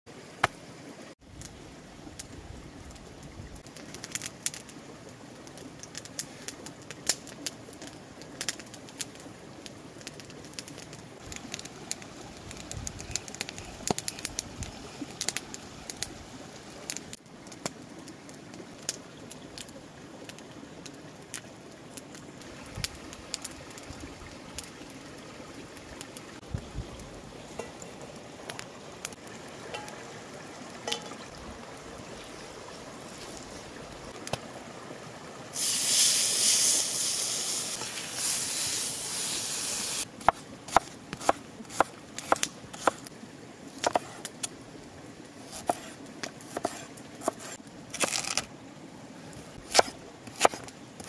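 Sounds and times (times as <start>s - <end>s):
outdoor background: 0.1s - 51.0s.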